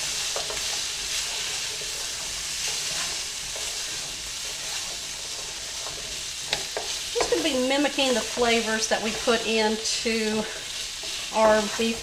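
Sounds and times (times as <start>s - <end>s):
utensil scraping a pan: 0.0s - 12.0s
vegetables sizzling in a skillet: 0.0s - 12.0s.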